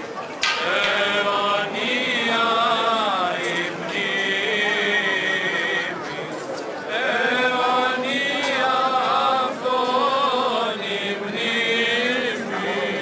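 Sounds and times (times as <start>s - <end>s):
voices singing a slow chant: 0.4s - 13.0s.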